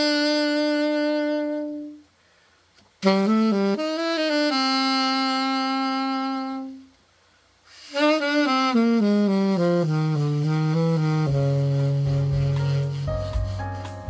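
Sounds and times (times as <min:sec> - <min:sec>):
alto saxophone notes: 0:00.0 - 0:02.2, 0:03.0 - 0:07.0, 0:07.7 - 0:14.0.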